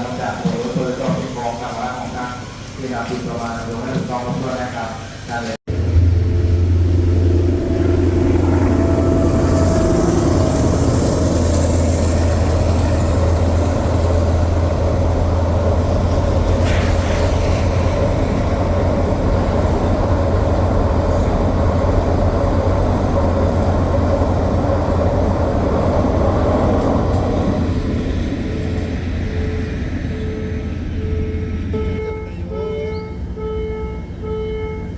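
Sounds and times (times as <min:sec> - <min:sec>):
diesel train rumbling: 0:00.0 - 0:34.9.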